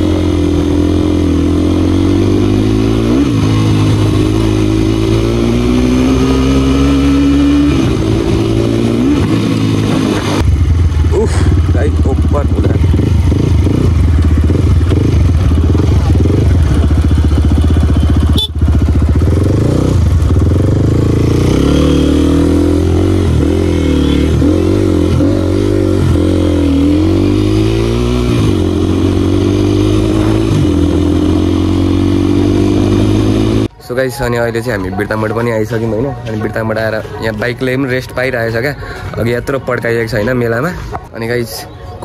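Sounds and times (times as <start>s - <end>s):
dirt bike engine running: 0.0s - 33.7s.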